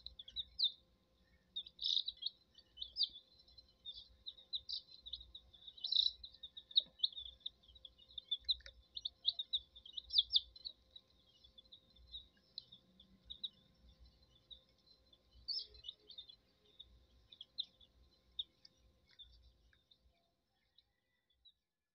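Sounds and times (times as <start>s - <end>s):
chicks peeping: 0.0s - 19.9s.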